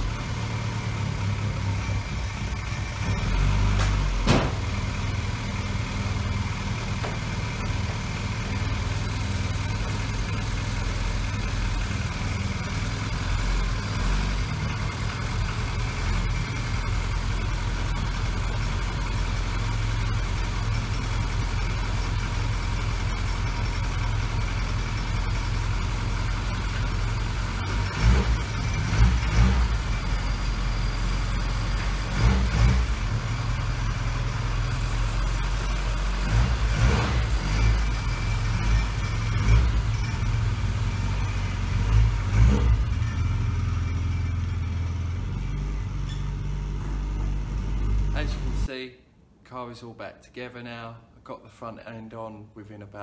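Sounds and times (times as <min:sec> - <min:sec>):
car engine running at low revs: 0:00.0 - 0:48.7.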